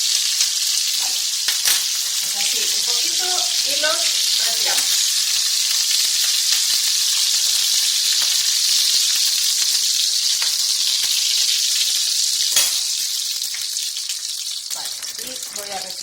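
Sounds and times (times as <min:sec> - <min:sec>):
prawns sizzling in hot oil: 0:00.0 - 0:16.0.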